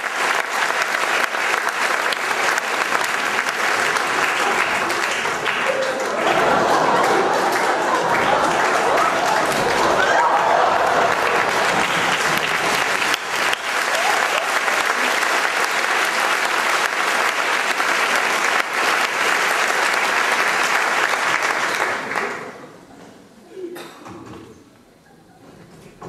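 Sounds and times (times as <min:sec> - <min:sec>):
audience applause: 0:00.0 - 0:22.8.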